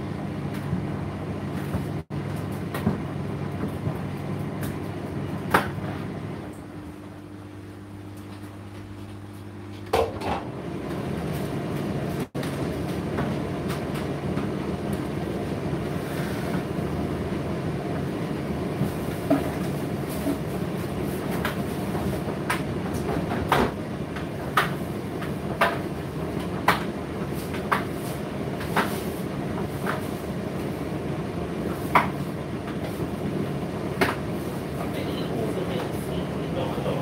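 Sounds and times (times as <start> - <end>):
tumble dryer humming: 0.0 - 37.0.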